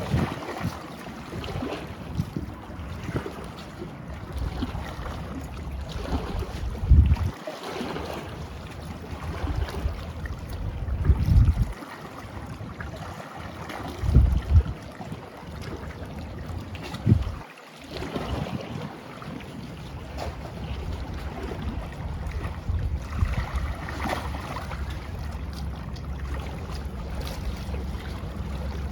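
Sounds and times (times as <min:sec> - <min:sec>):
wind buffeting microphone: 0:00.0 - 0:07.4, 0:08.2 - 0:28.9.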